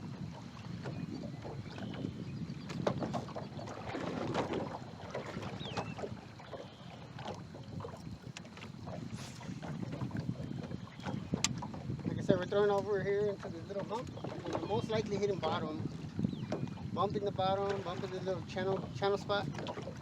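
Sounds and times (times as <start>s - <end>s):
water lapping against boat hull: 0.0s - 20.0s
wind buffeting microphone: 0.0s - 20.0s.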